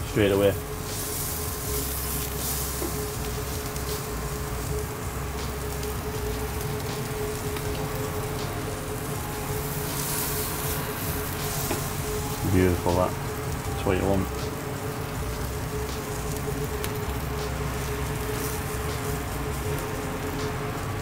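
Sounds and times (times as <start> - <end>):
steady hum: 0.0 - 21.0
steak sizzling and crackling: 0.0 - 21.0.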